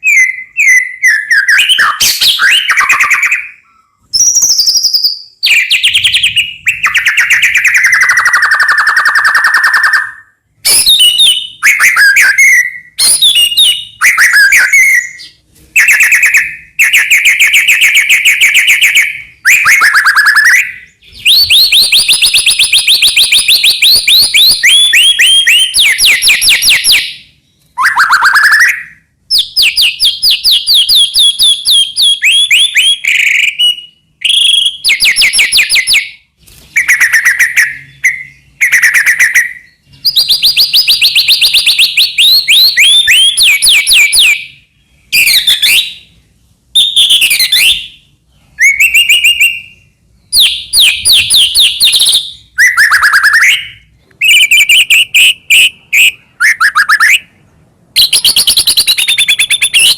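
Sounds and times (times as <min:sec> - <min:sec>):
bird singing whistles: 0:00.0 - 0:36.2, 0:36.8 - 0:57.4, 0:58.0 - 0:59.9.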